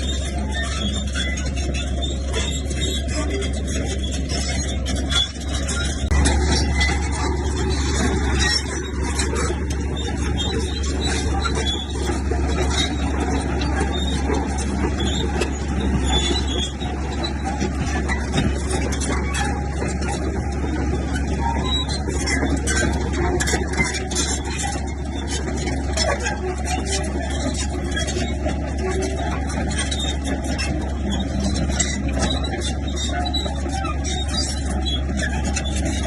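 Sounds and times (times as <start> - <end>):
bulldozer diesel engine: 0.0 - 36.0
continuous track clatter: 0.0 - 36.0
metallic clanks and squeaks: 0.0 - 36.0.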